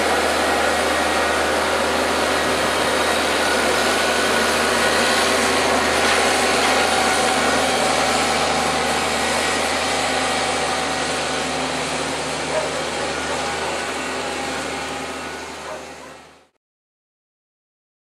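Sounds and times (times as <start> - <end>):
tractor engine drone with hiss: 0.0 - 16.6.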